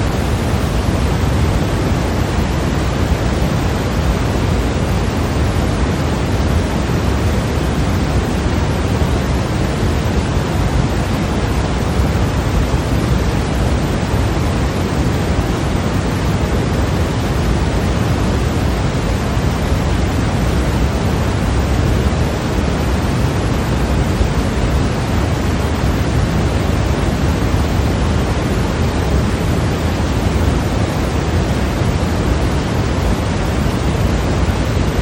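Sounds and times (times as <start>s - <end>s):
white noise hiss: 0.0s - 35.0s.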